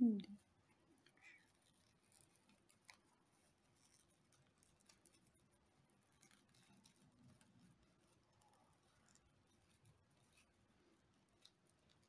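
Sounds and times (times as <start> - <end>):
faint rustling of paper yarn: 0.0 - 12.0.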